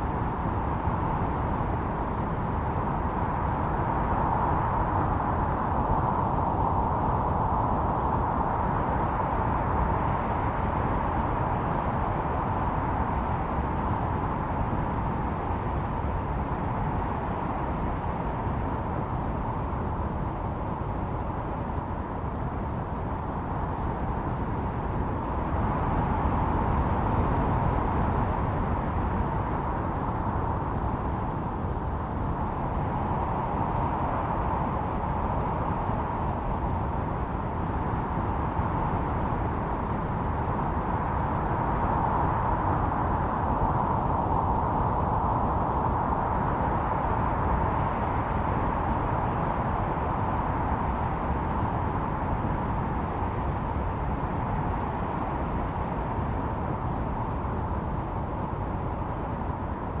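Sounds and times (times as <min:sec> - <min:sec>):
howling snowstorm wind: 0:00.0 - 1:00.0.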